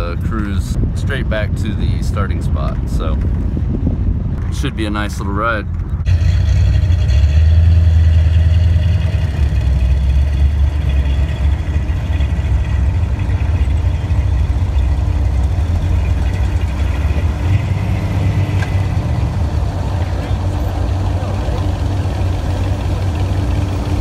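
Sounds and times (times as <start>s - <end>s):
car engines rumbling: 0.0s - 24.0s.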